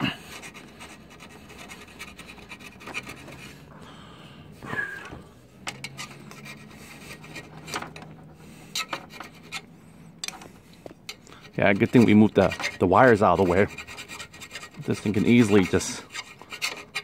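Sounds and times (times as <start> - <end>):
file scraping metal: 0.0 - 3.7, 5.4 - 17.0.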